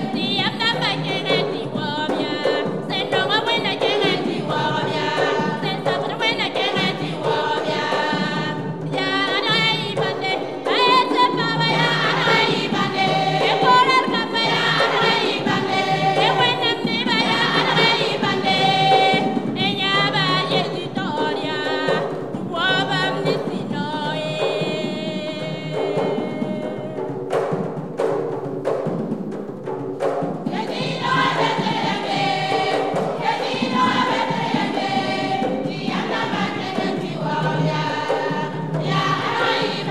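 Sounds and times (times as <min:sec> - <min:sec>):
women's choir singing gospel: 0:00.0 - 0:27.3, 0:30.4 - 0:39.9
box drum beats: 0:00.0 - 0:39.9.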